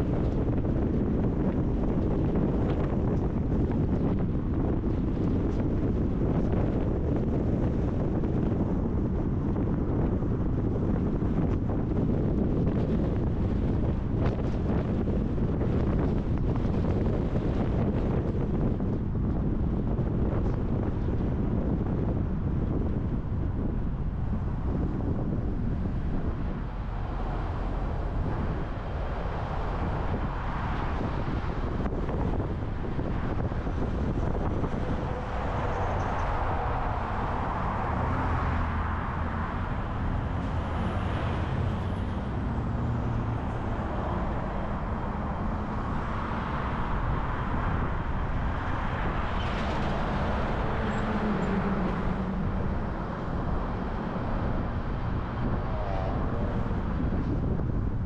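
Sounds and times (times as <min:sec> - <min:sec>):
car road noise: 0:00.0 - 0:58.0
surrounding traffic: 0:00.0 - 0:58.0.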